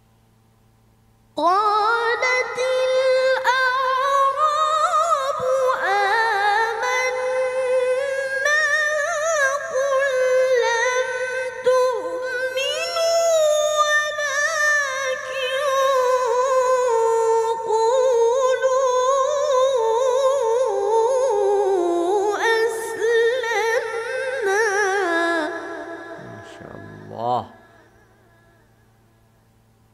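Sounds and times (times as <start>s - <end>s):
boy chanting recitation: 1.4s - 28.6s.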